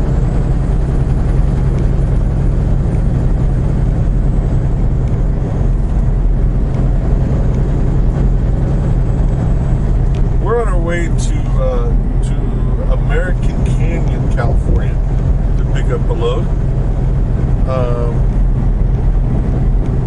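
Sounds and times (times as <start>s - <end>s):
truck road and engine noise: 0.0s - 20.0s.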